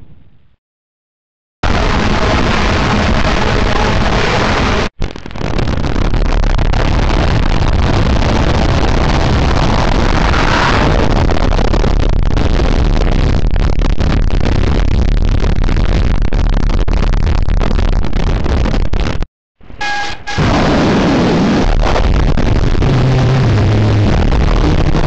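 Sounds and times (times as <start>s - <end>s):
harsh distorted noise: 1.6s - 25.0s.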